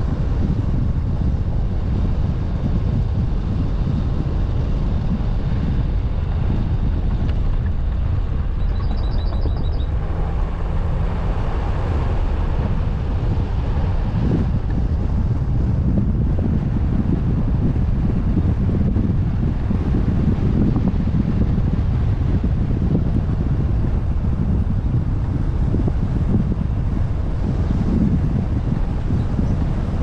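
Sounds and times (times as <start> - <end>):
car engine and road noise: 0.0 - 30.0
wind buffeting microphone: 0.0 - 30.0.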